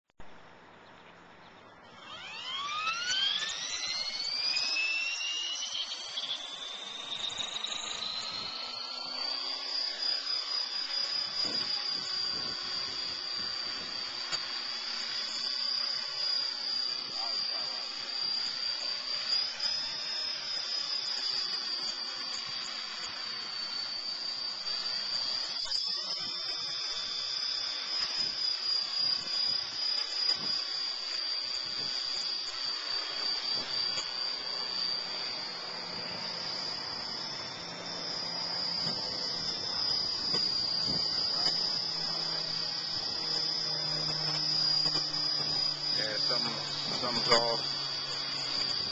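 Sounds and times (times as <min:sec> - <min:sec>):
rc helicopter motor whine: 0:01.6 - 0:48.9.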